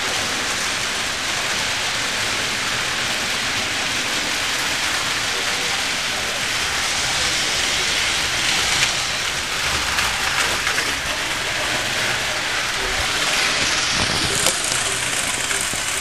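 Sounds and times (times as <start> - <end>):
model trains rushing and hissing: 0.0 - 16.0.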